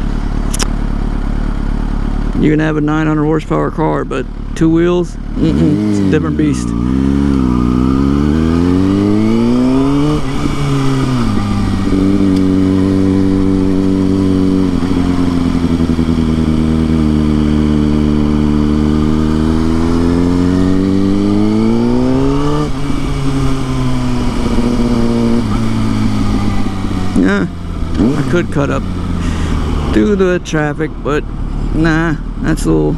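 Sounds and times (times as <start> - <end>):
sport bike engine revving: 0.0 - 32.9.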